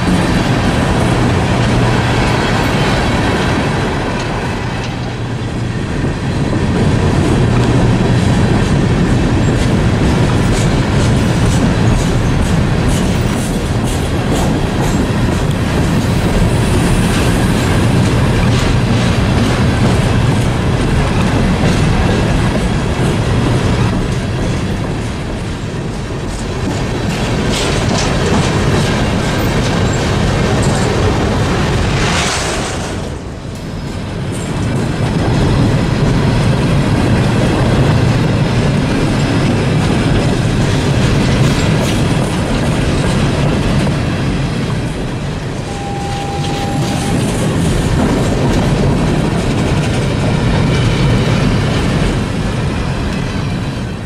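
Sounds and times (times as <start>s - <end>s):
wheels clattering over rail joints: 0.0s - 45.7s
freight train rumble: 0.0s - 54.0s.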